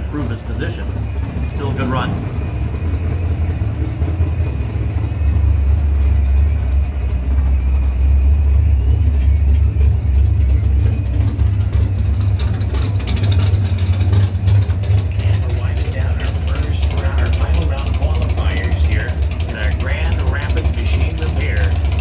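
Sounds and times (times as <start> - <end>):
race car engine idling: 0.0 - 22.0.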